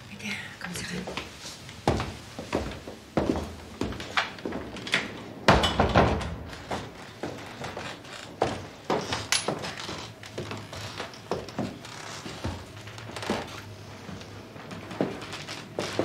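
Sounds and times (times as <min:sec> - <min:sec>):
footsteps on wooden floor: 0:00.8 - 0:16.0.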